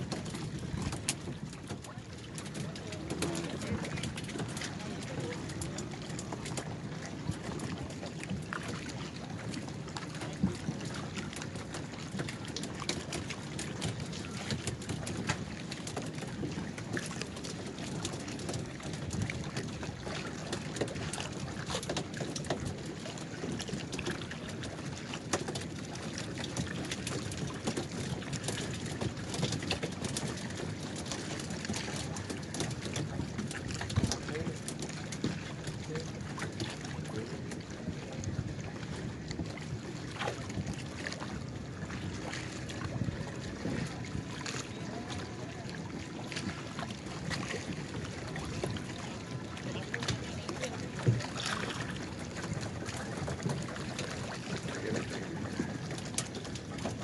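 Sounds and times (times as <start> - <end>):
paddles knocking and splashing: 0.0 - 57.0
water splashing and lapping: 0.0 - 57.0.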